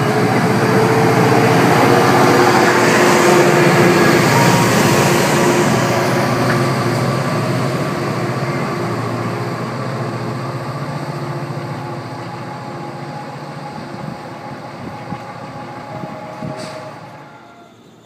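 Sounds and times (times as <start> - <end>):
diesel locomotive engine drone: 0.0 - 18.0
train wheel noise: 0.0 - 18.0.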